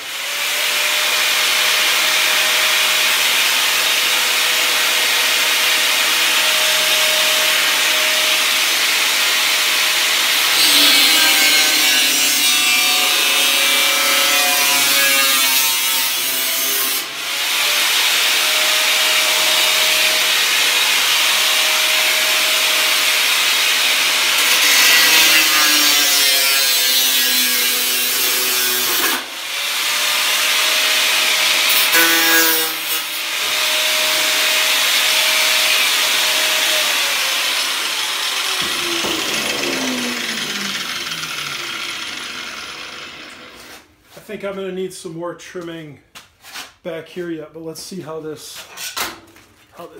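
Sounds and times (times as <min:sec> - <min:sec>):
power saw cutting sheet metal: 0:00.0 - 0:43.9.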